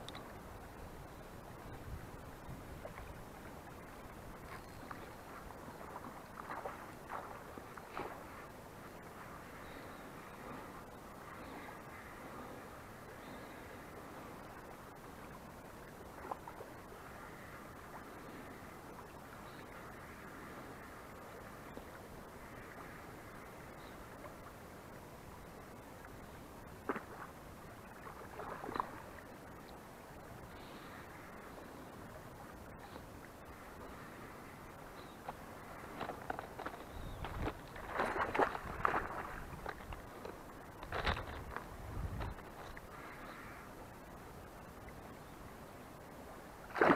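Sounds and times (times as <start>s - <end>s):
flowing river water: 0.0s - 46.9s.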